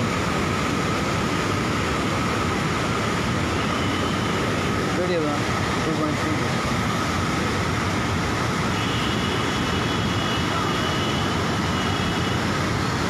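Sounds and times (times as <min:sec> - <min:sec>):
river torrent rushing: 0:00.0 - 0:13.0.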